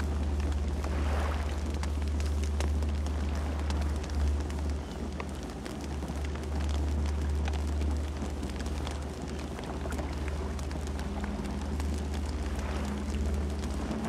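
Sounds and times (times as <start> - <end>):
campfire flames rumbling: 0.0 - 14.0
wood crackling and popping: 0.0 - 14.0.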